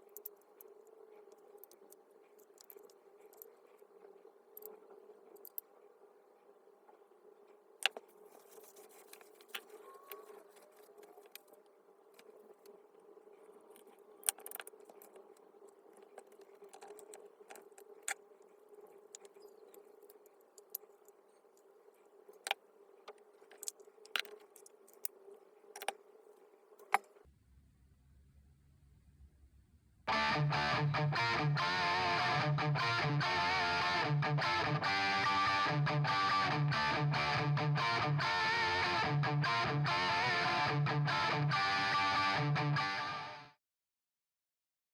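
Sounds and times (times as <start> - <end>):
faint steady hum: 0.0 - 42.7.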